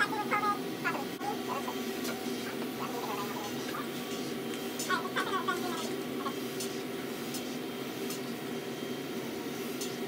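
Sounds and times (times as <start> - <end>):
respirator blowers whirring: 0.0 - 10.0.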